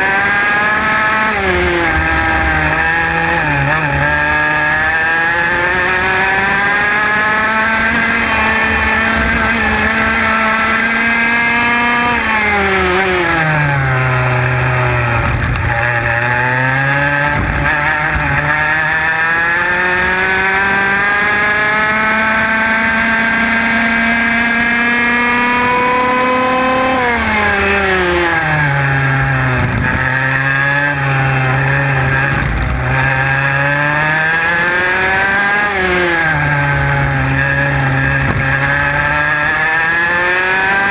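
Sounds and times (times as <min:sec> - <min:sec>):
kart engine at racing speed: 0:00.0 - 0:40.9.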